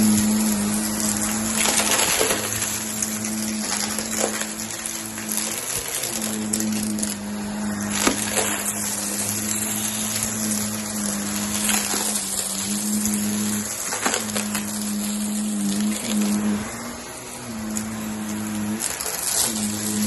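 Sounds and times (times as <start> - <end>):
debris clicks in vacuum: 0.0 - 20.0
vacuum cleaner running: 0.0 - 20.0.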